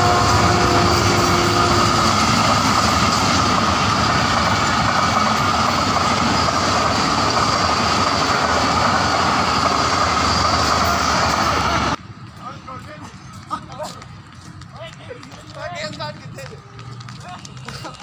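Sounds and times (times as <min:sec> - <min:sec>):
train wheels rushing on rails: 0:00.0 - 0:18.0.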